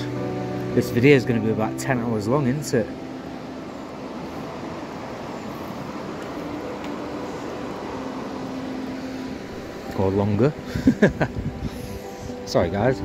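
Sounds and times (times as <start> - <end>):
shallow river water rushing: 0.0 - 13.0.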